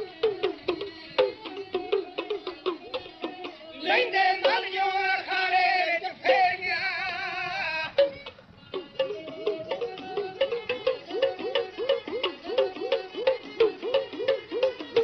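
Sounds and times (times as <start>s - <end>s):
quick hand-drum strokes: 0.0s - 5.0s, 7.9s - 15.0s
person singing with vibrato: 0.0s - 15.0s.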